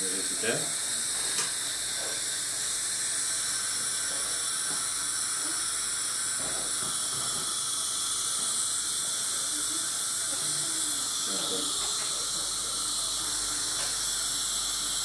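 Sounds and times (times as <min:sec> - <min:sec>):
dental equipment hissing: 0:00.0 - 0:15.0.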